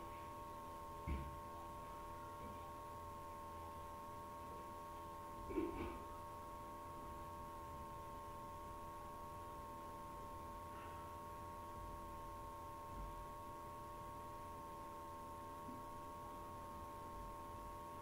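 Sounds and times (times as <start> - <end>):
electrical hum: 0.0 - 18.0
mid-pitched whine: 0.0 - 18.0.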